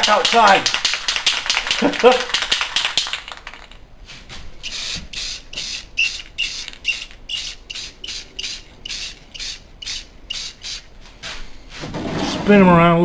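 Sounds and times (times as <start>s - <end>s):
aerosol spray can hissing: 0.0s - 3.8s, 4.6s - 11.8s.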